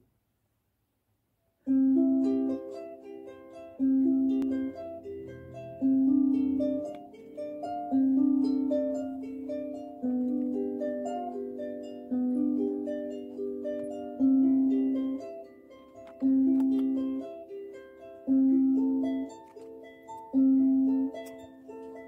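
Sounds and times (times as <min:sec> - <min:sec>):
gentle plucked-string tune: 0:01.6 - 0:22.0.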